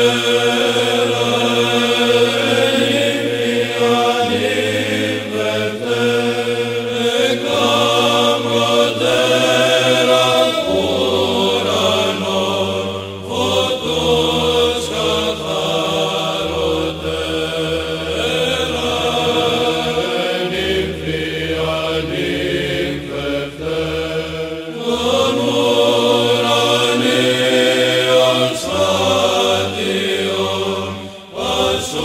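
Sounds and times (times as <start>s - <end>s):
chanted vocal melody: 0.0s - 32.0s.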